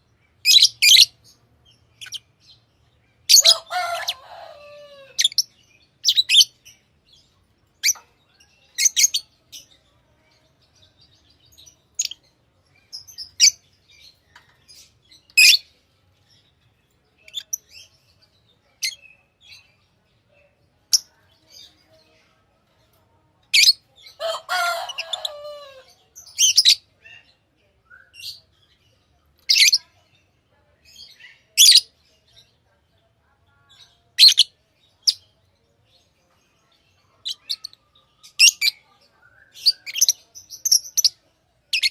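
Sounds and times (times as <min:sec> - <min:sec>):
lovebirds chirping: 0:00.0 - 0:32.6, 0:33.5 - 0:41.9.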